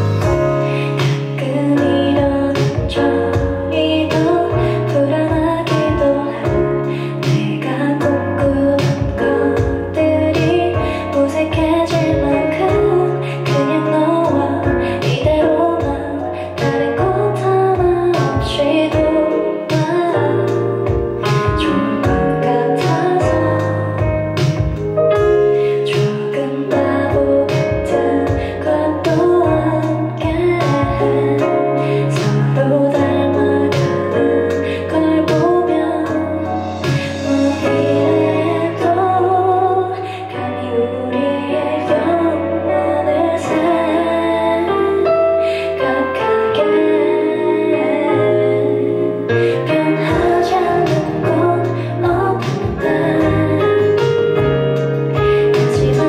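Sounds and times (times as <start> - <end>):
instrumental accompaniment with beat: 0.0 - 40.6, 41.2 - 56.0
woman singing into microphone: 0.0 - 56.0.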